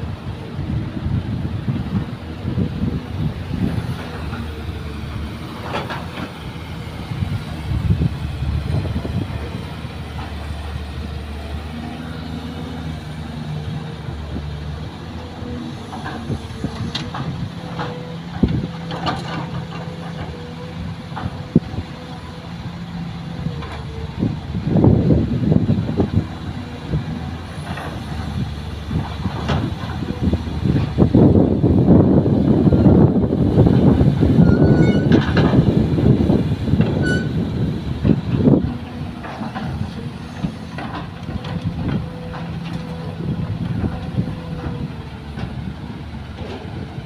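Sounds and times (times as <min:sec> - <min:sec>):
diesel engines rumbling: 0:00.0 - 0:47.0.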